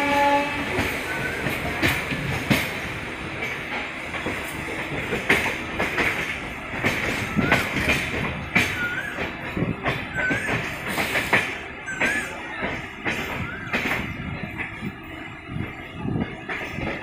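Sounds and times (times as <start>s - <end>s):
train wheels on rails: 0.0s - 17.0s
wheels clacking over rail joints: 0.0s - 17.0s.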